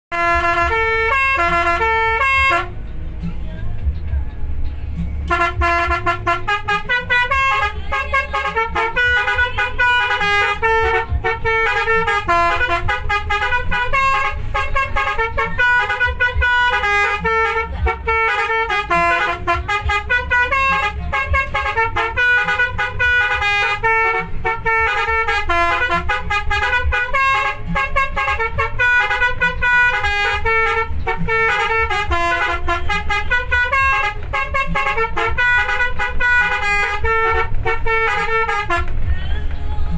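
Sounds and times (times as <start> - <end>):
bus horn playing melody: 0.1 - 39.9
low vehicle rumble: 0.1 - 39.9.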